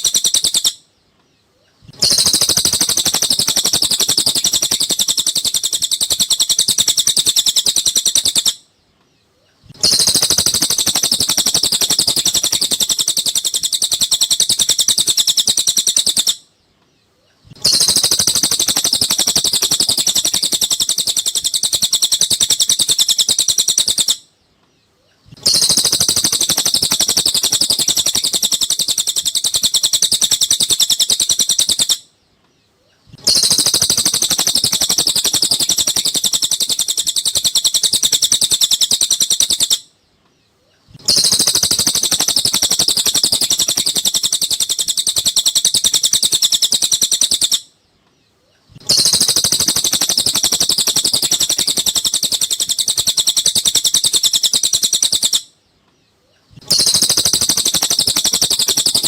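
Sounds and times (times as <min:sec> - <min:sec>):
bird chirping rapidly: 0:00.0 - 0:32.2, 0:32.8 - 0:40.0, 0:40.6 - 0:47.7, 0:48.4 - 0:55.6, 0:56.3 - 0:59.0.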